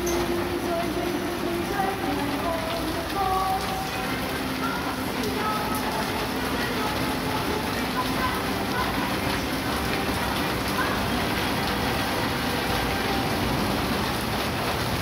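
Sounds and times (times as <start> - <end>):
heavy rain on street: 0.0 - 15.0.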